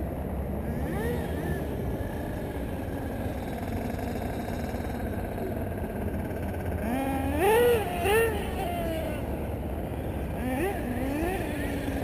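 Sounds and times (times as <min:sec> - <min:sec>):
small nitro engine idling: 0:00.0 - 0:12.0.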